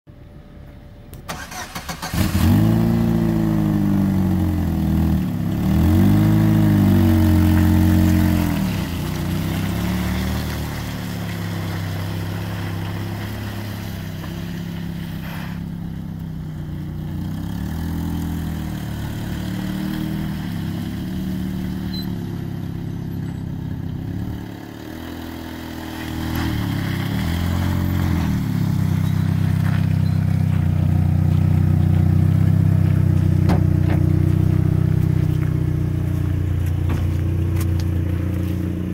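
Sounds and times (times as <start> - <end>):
pickup engine starting and revving: 1.1 - 38.9.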